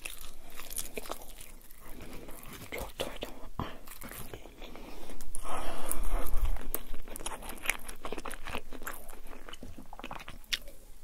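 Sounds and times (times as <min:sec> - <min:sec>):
chewing with soft crunches: 0:00.0 - 0:10.8.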